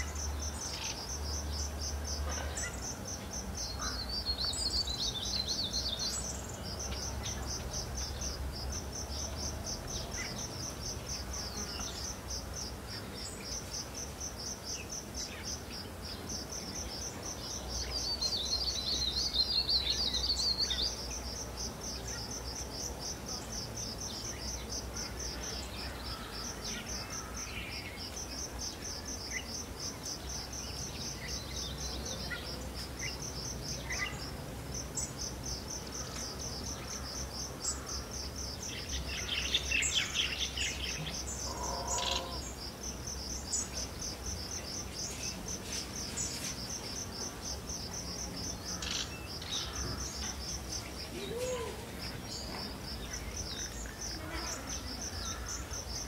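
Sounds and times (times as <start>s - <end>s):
bird calls: 0.0s - 34.4s, 35.0s - 56.0s
crickets chirping: 0.0s - 56.0s.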